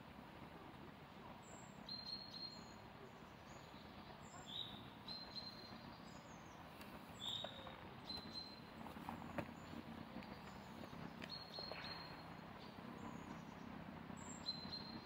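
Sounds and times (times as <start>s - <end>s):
outdoor background hiss: 0.0s - 15.0s
small birds chirping: 1.4s - 15.0s.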